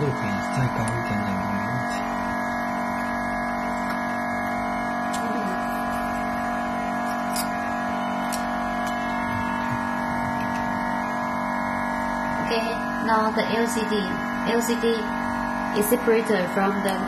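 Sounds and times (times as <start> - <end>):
machine electric hum: 0.0 - 17.0.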